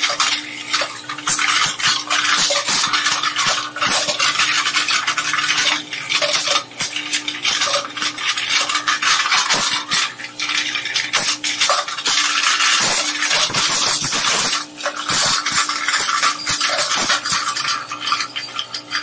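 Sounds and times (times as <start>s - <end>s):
shredder grinding metal: 0.0s - 19.0s.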